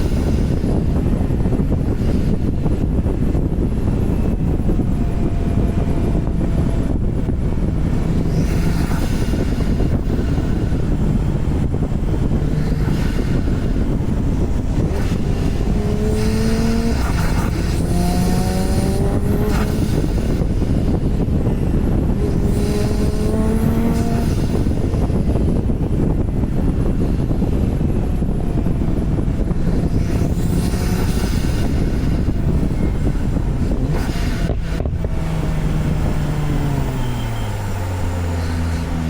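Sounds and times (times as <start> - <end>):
car engine accelerating: 0.0 - 39.0
road and wind noise: 0.0 - 39.0.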